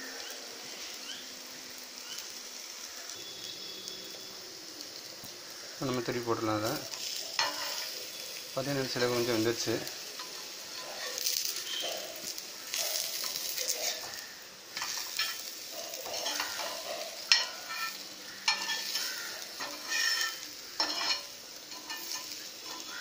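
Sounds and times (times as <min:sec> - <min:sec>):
flatbread sizzling on a griddle: 0:00.0 - 0:23.0.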